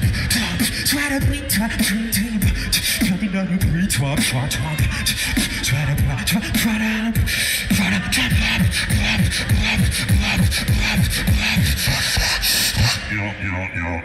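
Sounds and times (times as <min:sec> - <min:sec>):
beatboxing through microphone: 0:00.0 - 0:14.0.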